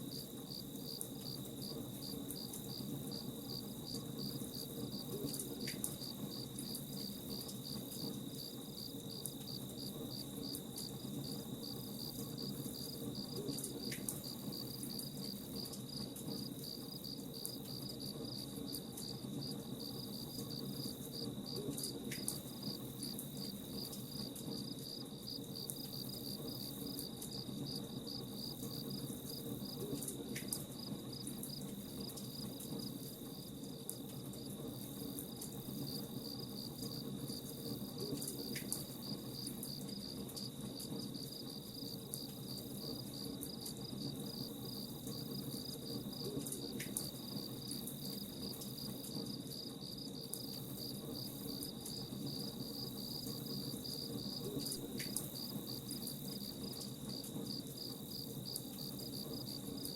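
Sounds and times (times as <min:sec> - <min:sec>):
campfire crackling ticks: 0:00.0 - 0:59.9
continuous low rumble: 0:00.0 - 0:59.9
crickets chirping: 0:00.0 - 0:59.9.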